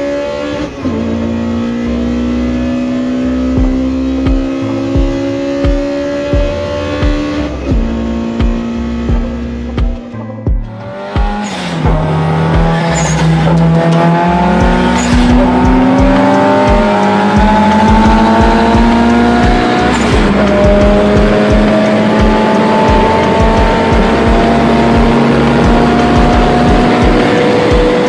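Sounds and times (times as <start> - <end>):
car engine pulling hard: 0.0 - 9.7, 10.8 - 28.0
music with a steady beat: 0.0 - 28.0.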